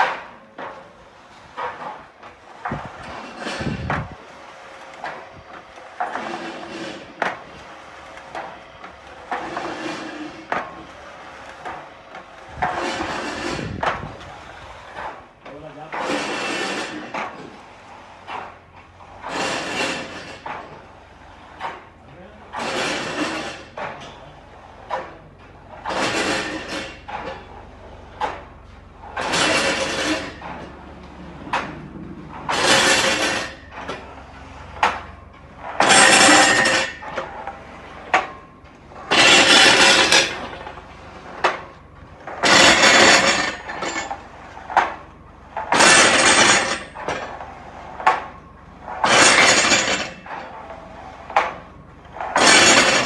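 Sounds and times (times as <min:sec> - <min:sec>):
machinery rushing noise: 0:01.0 - 0:38.2, 0:38.9 - 0:44.6.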